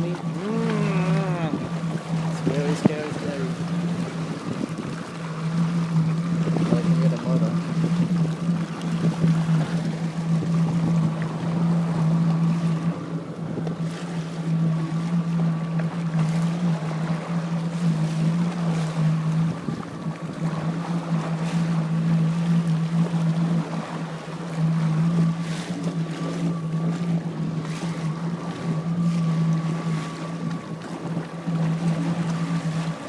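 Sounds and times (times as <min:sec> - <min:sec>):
jet ski engine running: 0:00.0 - 0:33.0.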